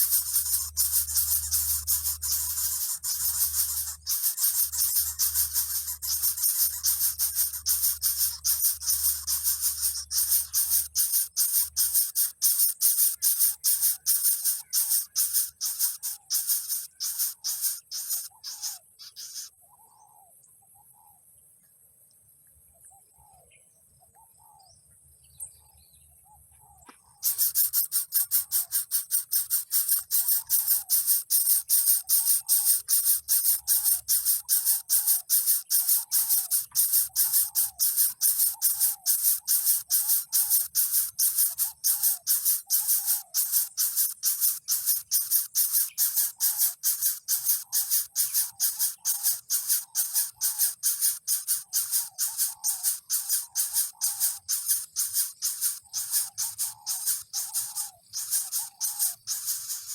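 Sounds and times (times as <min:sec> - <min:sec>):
rapid pulsing high hiss: 0:00.0 - 0:19.5, 0:27.2 - 0:59.9
small birds chirping: 0:00.0 - 0:21.2, 0:22.2 - 0:59.9.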